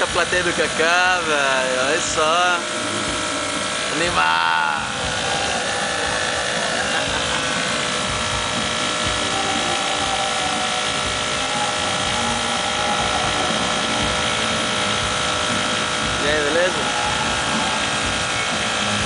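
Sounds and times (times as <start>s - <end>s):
air compressor humming: 0.0s - 19.0s
airbrush spraying hiss: 0.0s - 19.0s.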